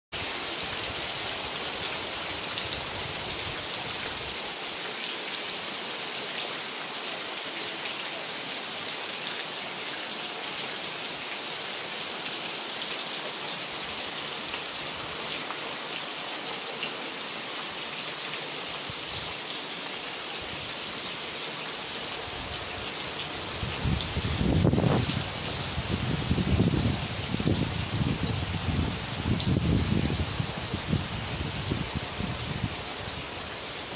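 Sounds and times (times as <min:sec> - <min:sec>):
heavy rain on grass and trees: 0:00.1 - 0:33.9.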